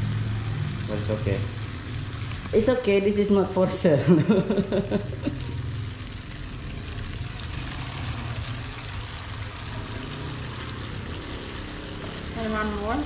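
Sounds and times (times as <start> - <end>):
fritters frying in hot oil: 0.0 - 13.0.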